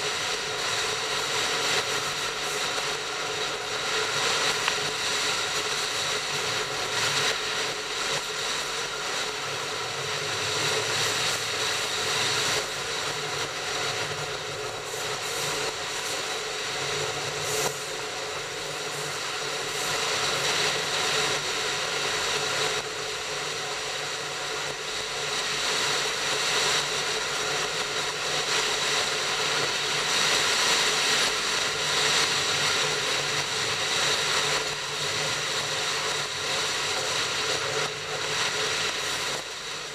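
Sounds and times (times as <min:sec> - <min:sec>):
train wheels rushing on rails: 0:00.0 - 0:39.9.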